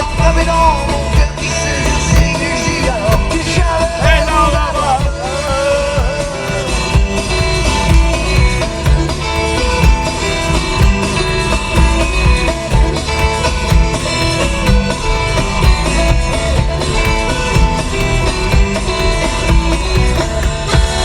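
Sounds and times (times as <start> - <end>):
guitar music with steady beat: 0.0 - 21.0.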